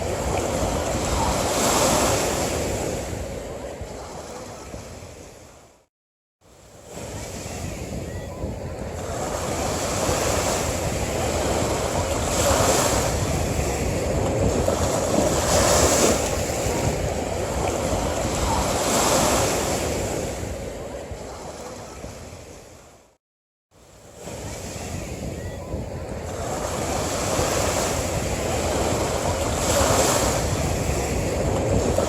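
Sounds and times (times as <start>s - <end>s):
ocean waves breaking on beach: 0.0s - 23.2s, 23.8s - 32.0s.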